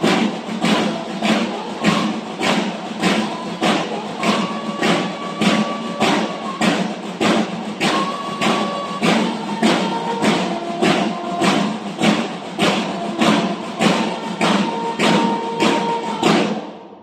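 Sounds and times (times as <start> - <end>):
bugles holding long notes: 0.0 - 16.7
marching drums: 0.0 - 17.0.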